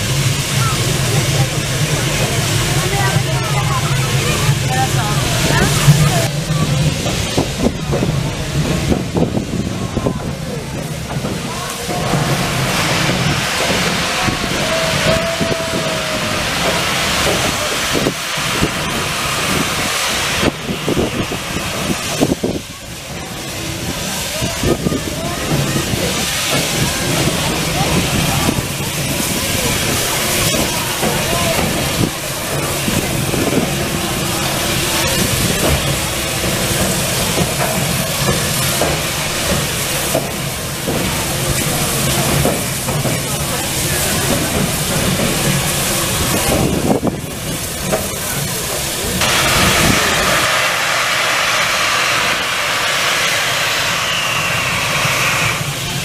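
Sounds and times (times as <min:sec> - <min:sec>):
locomotive steam hissing: 0:00.0 - 0:56.0.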